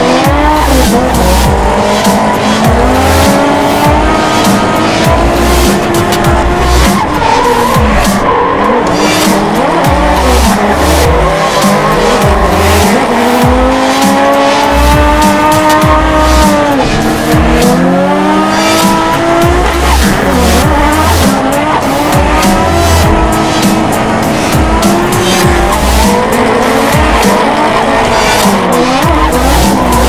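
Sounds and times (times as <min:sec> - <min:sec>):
car engine revving hard: 0:00.0 - 0:30.0
music with bass beat: 0:00.0 - 0:30.0.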